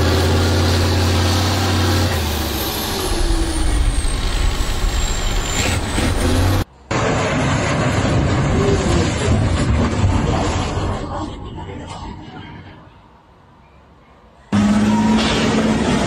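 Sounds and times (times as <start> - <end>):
rough rumble: 0.0 - 13.0
diesel truck engine straining: 0.0 - 13.4, 14.0 - 16.0.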